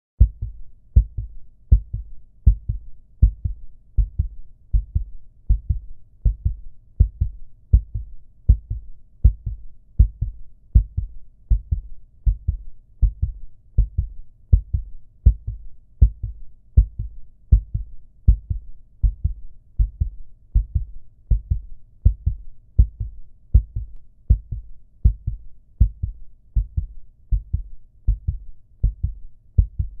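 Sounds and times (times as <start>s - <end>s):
heartbeat thumps: 0.2s - 30.0s.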